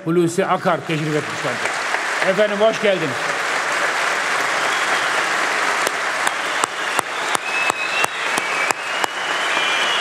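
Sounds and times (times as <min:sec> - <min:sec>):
crowd applauding: 0:00.6 - 0:10.0
loud rhythmic clap: 0:00.7 - 0:10.0.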